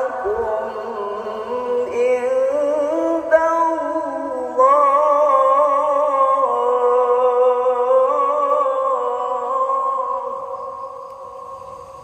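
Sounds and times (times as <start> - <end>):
man reciting a long melodic note: 0.0 - 12.0.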